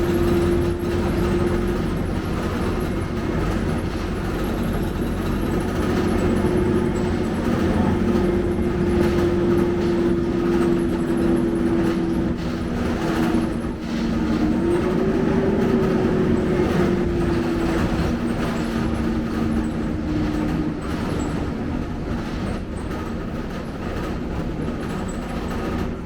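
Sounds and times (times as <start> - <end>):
bus road rumble: 0.0 - 26.0.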